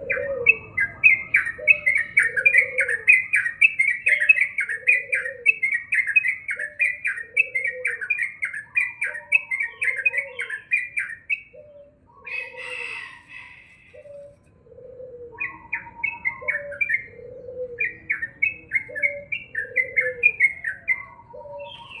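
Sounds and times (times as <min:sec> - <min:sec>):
harsh bird call: 0:00.0 - 0:14.4, 0:15.2 - 0:22.0
bird chattering song: 0:00.0 - 0:22.0.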